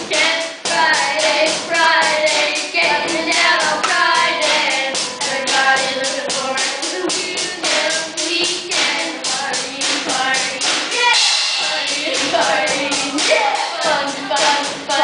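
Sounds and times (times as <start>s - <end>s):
backing track with clapping beat: 0.0s - 15.0s
young voices singing pop song: 0.0s - 15.0s.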